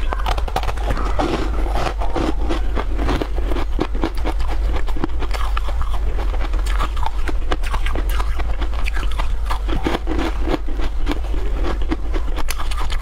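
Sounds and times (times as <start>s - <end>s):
crunching and chewing a crisp: 0.0s - 13.0s
steady low hum: 0.0s - 13.0s.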